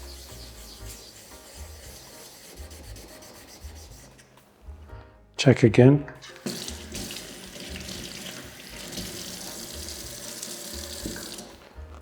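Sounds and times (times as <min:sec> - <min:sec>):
water running: 0:00.0 - 0:03.9, 0:06.1 - 0:12.0.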